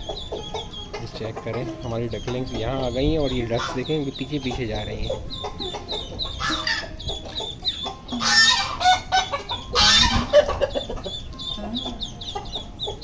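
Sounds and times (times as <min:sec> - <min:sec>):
ducklings peeping: 0:00.0 - 0:13.0
hens clucking: 0:00.0 - 0:13.0
loud harsh bird calls: 0:00.0 - 0:13.0.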